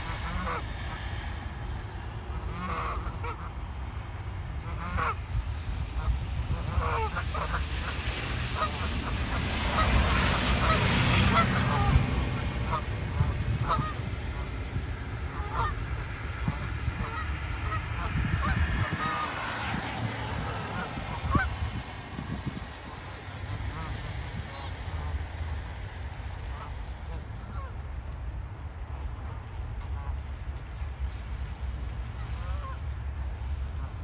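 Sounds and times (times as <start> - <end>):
geese honking: 0.0 - 1.5, 2.2 - 3.7, 4.5 - 5.3, 5.9 - 25.2, 26.4 - 27.8, 28.9 - 30.8, 32.0 - 33.0
low rumble: 4.0 - 33.9.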